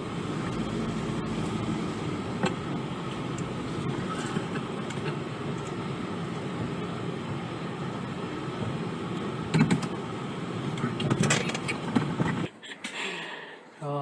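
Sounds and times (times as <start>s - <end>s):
van engine and road noise: 0.0s - 14.0s.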